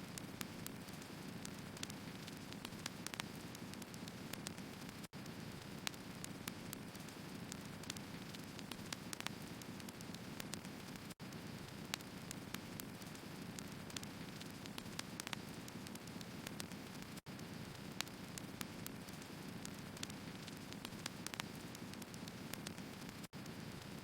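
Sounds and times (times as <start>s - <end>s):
crackles and pops from logs: 0.0s - 24.0s.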